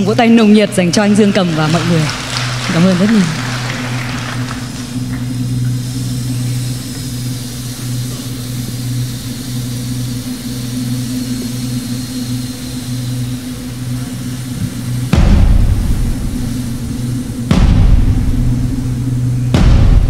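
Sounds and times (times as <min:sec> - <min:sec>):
low synthesizer drone: 0:00.0 - 0:20.0.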